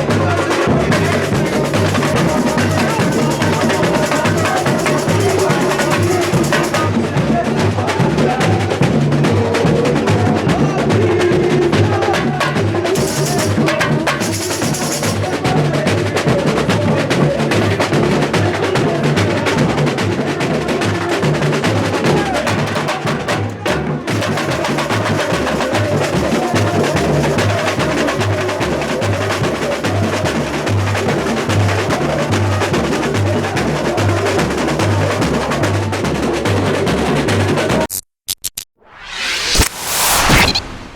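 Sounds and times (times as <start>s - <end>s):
percussion ensemble playing samba: 0.0s - 37.8s.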